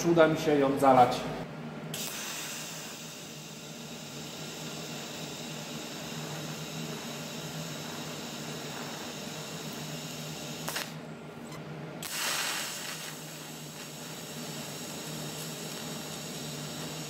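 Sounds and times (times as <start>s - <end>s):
welding arc hissing: 1.9s - 11.0s, 12.0s - 17.0s.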